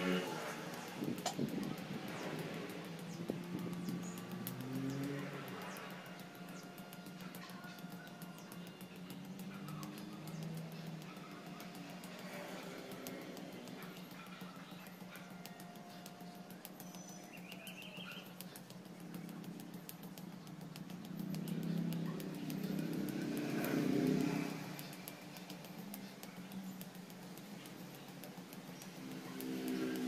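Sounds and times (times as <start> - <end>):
vehicle passing by: 0.0 - 16.4, 19.1 - 26.6, 27.3 - 30.0.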